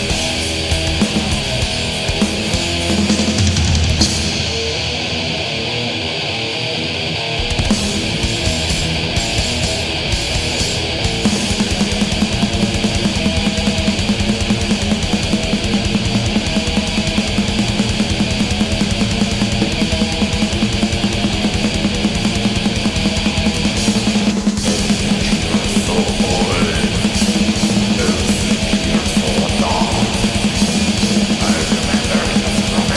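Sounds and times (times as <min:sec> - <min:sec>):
heavy rock music: 0:00.0 - 0:32.9.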